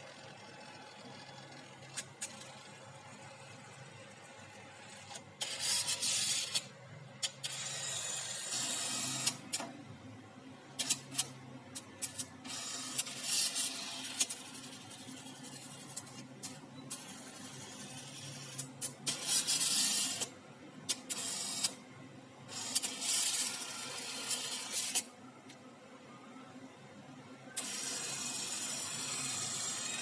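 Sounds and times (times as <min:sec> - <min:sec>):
printer mechanism whirring: 0:00.1 - 0:21.8, 0:22.5 - 0:25.7, 0:27.5 - 0:30.0.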